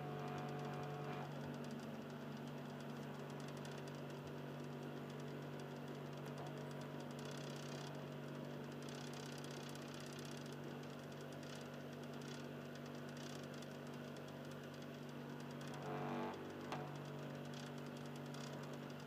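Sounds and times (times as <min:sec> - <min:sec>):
disc drive motor grinding: 0:00.0 - 0:19.0.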